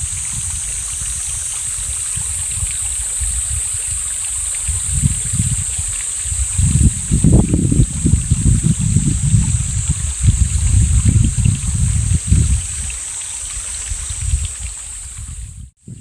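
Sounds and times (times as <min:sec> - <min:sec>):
mountain stream running: 0:00.0 - 0:15.8
wind buffeting microphone: 0:00.0 - 0:16.0.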